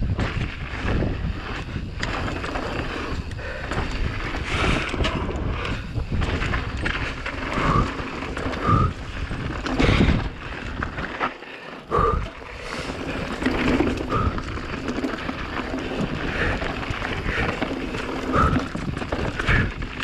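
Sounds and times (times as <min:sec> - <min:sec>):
wind rushing over microphone: 0:00.0 - 0:11.2, 0:11.9 - 0:20.0
bike clattering over rough dirt: 0:00.0 - 0:20.0.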